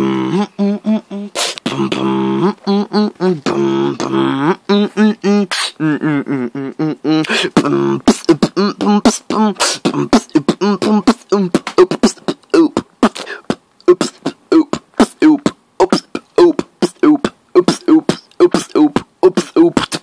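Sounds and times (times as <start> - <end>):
person beatboxing: 0.0 - 20.0.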